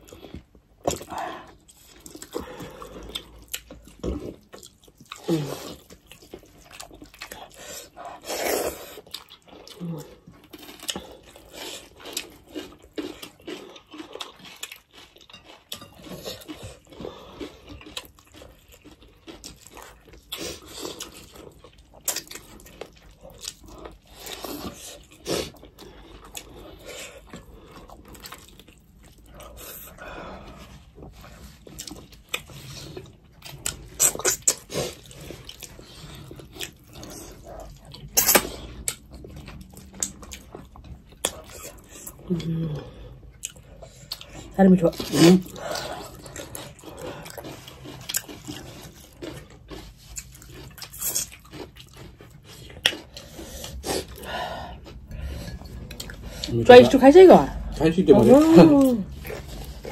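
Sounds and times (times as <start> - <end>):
wet chewing and crunching: 0.0 - 59.9.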